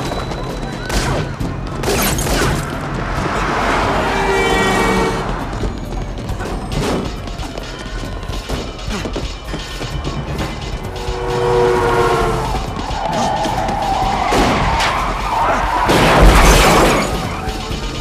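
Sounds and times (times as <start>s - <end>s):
action film music: 0.0s - 18.0s.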